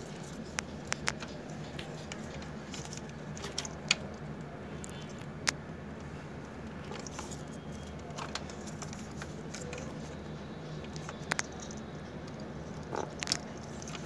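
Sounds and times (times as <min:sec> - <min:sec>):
fingers handling wire connectors: 0:00.0 - 0:14.0.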